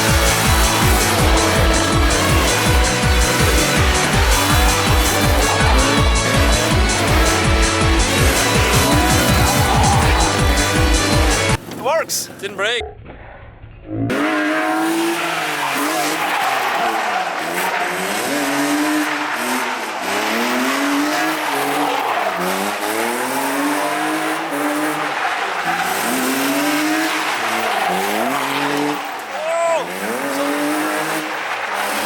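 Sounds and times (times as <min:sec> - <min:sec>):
car engine revving: 0:00.0 - 0:11.7, 0:14.1 - 0:32.0
tyres squealing: 0:00.0 - 0:12.7, 0:14.1 - 0:32.0.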